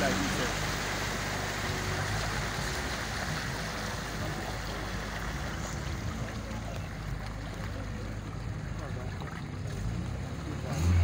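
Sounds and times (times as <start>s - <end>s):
low engine hum: 0.0s - 11.0s
tyres splashing through water: 0.0s - 11.0s.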